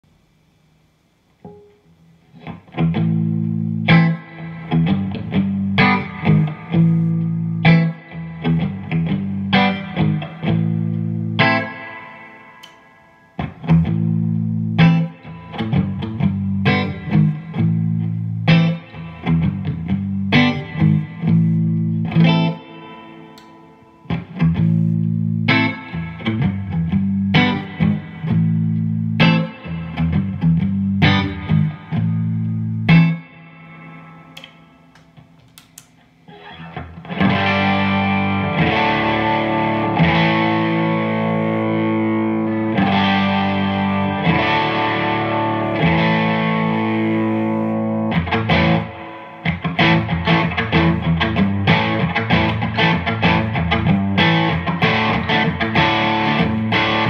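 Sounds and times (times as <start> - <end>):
electric guitar through amp: 1.3 - 57.0.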